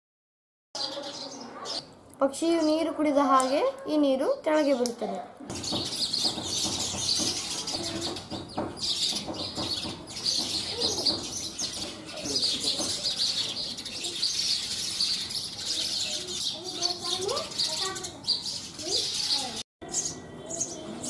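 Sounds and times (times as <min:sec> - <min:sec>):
sparrows chirping: 0:00.8 - 0:21.0.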